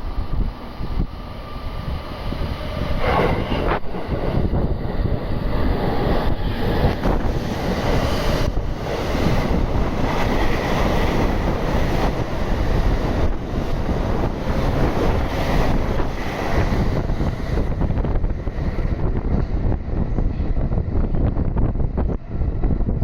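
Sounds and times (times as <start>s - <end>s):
train passing: 0.0s - 22.8s
wind buffeting microphone: 0.0s - 23.0s.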